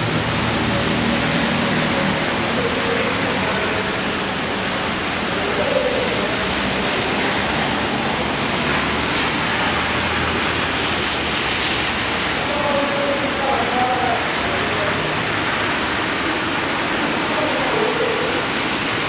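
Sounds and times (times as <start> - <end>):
car tyres swishing through water: 0.0 - 19.0
heavy rain on a flooded road: 0.0 - 19.0.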